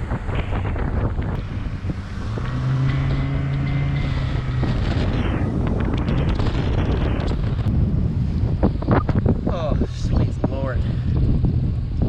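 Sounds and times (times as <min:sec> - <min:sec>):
outboard motor humming: 0:00.0 - 0:12.0
wind buffeting microphone: 0:00.0 - 0:12.0.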